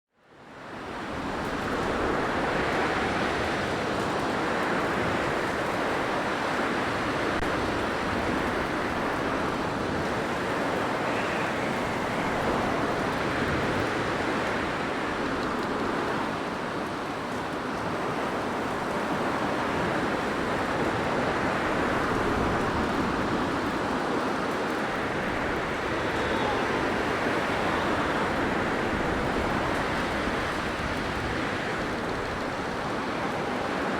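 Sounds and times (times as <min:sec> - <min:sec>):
rushing blizzard wind: 0:00.1 - 0:33.9.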